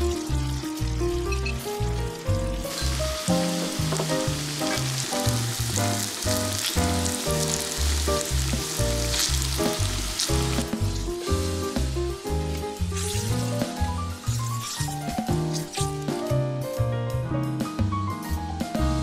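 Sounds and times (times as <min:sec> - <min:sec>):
oil sizzling in pan: 0:00.0 - 0:16.4.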